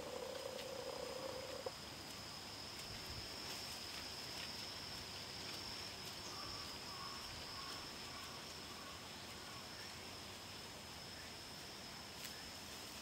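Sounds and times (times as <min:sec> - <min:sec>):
high-pitched insect drone: 0:00.0 - 0:12.6.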